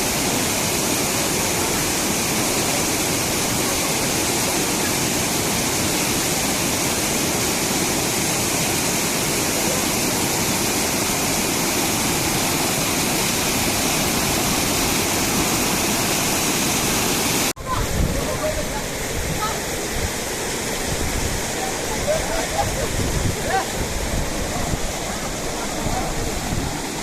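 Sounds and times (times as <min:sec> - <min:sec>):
rushing falling water: 0:00.0 - 0:27.0.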